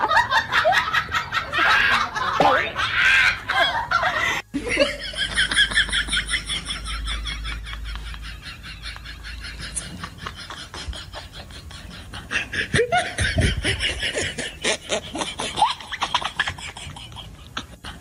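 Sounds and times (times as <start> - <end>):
laughter-like voices: 0.0 - 18.0.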